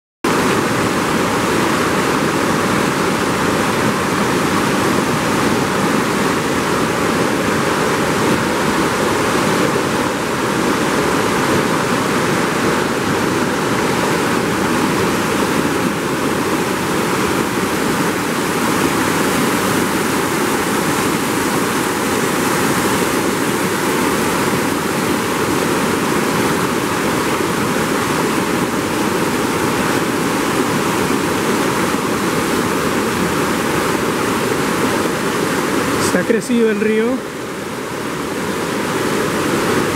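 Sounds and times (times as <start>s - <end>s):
river rushing over rocks: 0.3s - 39.9s.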